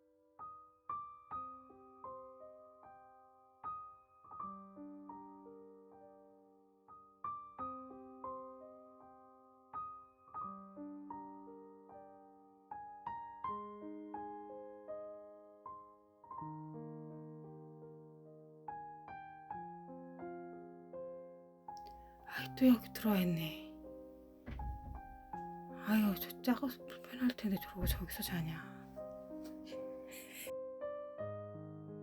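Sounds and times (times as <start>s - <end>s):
soft piano music: 0.0s - 32.0s.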